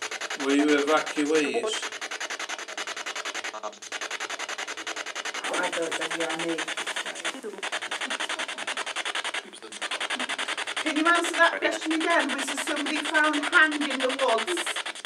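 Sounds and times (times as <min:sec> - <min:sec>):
stuttering radio static: 0:00.0 - 0:15.0
voice-like broadcast snatches: 0:00.0 - 0:15.0.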